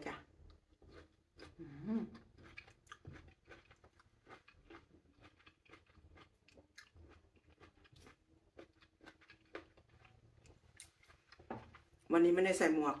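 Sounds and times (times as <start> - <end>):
chewing plums: 0.1 - 12.1.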